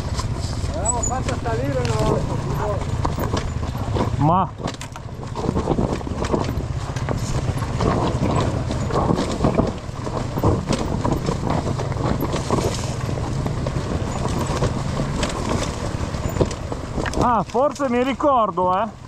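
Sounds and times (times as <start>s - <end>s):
knocks and clatter: 0.0s - 18.8s
motorcycle engine at low revs: 0.0s - 19.0s.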